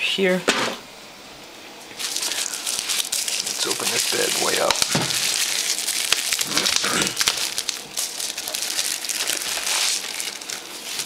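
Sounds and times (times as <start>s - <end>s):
plastic bubble-wrap bag crinkling: 1.9s - 11.0s
small crackles: 1.9s - 11.0s.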